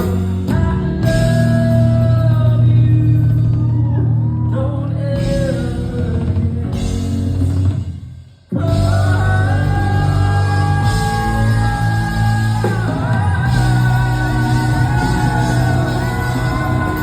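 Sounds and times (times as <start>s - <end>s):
person singing: 0.0s - 7.6s, 8.5s - 17.0s
live band playing: 0.0s - 17.0s.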